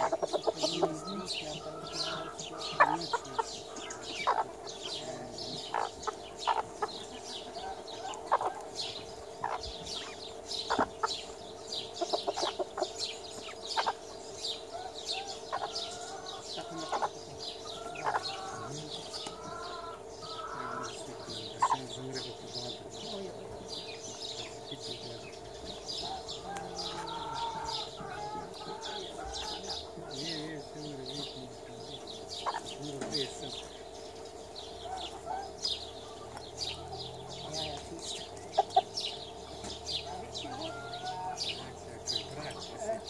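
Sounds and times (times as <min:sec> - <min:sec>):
roosters clucking: 0:00.0 - 0:43.0
steady low hum: 0:00.0 - 0:43.0.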